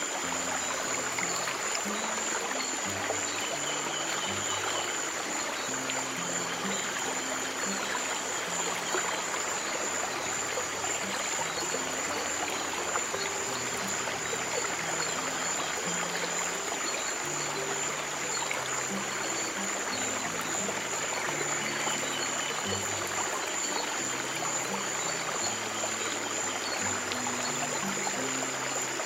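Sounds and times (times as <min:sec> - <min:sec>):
stream running water: 0:00.0 - 0:29.0.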